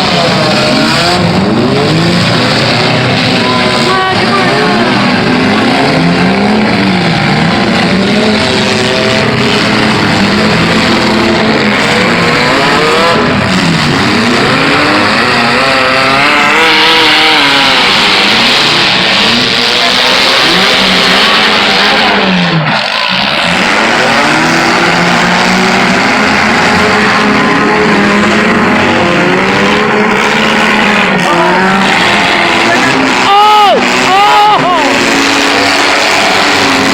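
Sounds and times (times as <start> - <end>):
car engines revving: 0.0 - 36.9.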